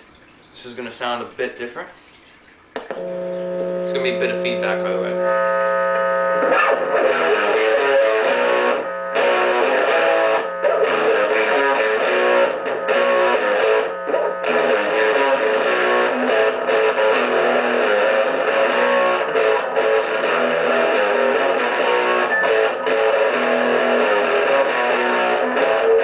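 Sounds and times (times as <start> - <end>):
electric guitar strummed chords: 2.9 - 26.0.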